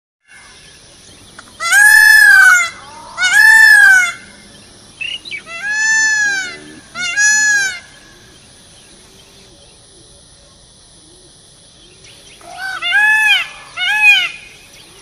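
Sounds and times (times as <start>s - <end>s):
peacock calling: 0.3s - 15.0s.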